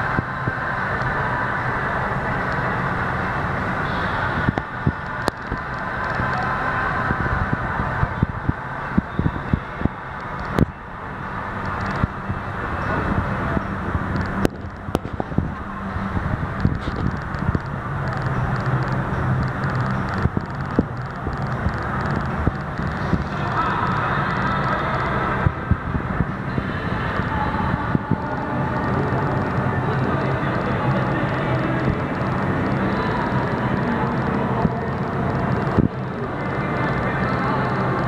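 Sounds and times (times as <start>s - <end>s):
crowd murmur: 0.0s - 38.0s.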